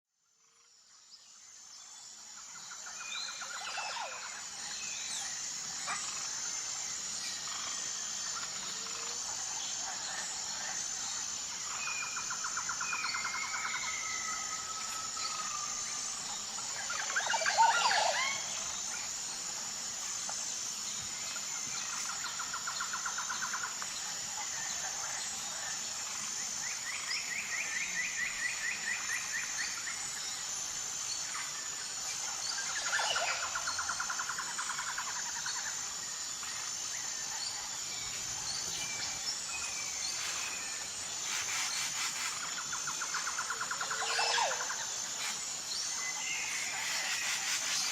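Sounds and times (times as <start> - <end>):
insect chorus: 0.2 - 47.9.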